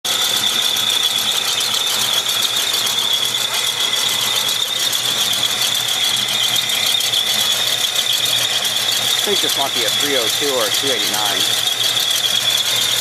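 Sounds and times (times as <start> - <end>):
car engine idling: 0.1 - 13.0
high-pitched squeal: 2.0 - 13.0.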